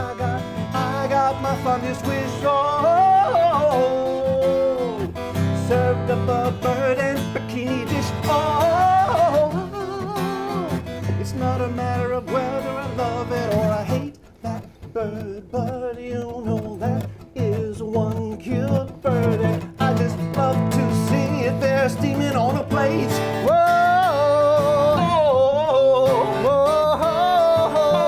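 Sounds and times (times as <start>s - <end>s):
man singing: 0.0s - 28.0s
strummed acoustic guitar: 0.0s - 28.0s.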